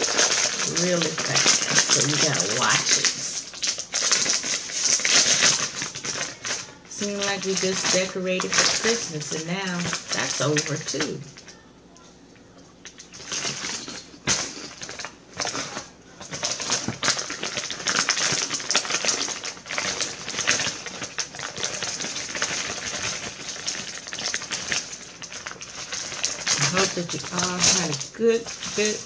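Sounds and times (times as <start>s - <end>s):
chip bag crinkling: 0.0s - 11.6s, 12.8s - 29.0s
potato chips crunching: 0.0s - 11.6s, 12.8s - 29.0s.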